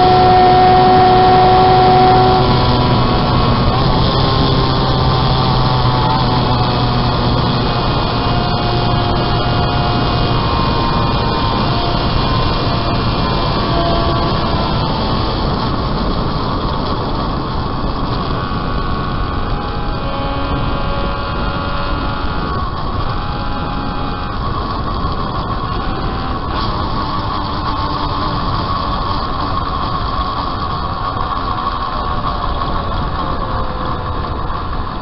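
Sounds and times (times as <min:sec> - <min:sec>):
motorcycle engine racing: 0:00.0 - 0:35.0
wind rumble: 0:00.0 - 0:35.0.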